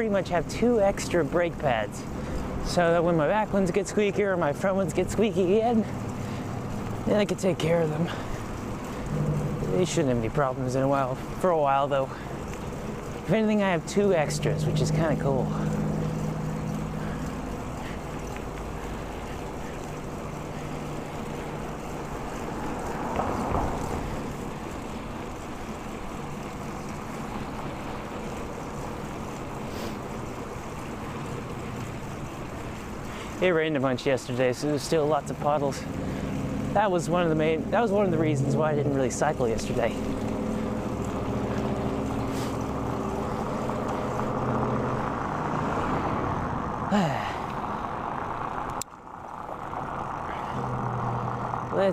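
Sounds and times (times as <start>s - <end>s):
bicycle tyres rolling on road: 0.0s - 51.9s
vehicle engine running steadily: 0.0s - 51.9s.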